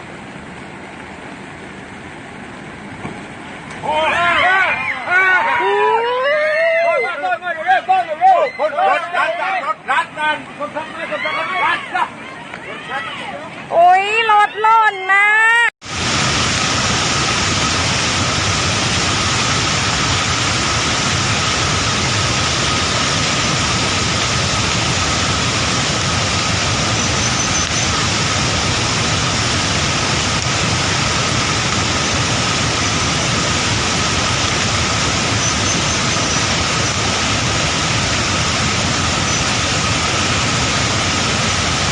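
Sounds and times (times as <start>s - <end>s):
floodwater rushing: 0.0s - 14.5s, 15.8s - 41.9s.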